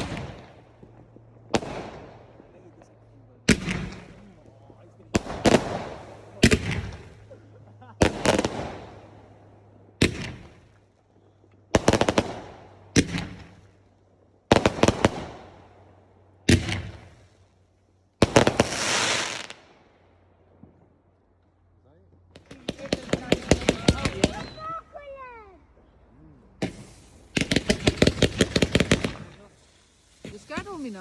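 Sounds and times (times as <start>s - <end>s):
fireworks bangs: 0.0s - 17.5s, 18.1s - 21.0s, 22.3s - 31.0s
fireworks crackling: 0.0s - 21.0s, 22.3s - 31.0s.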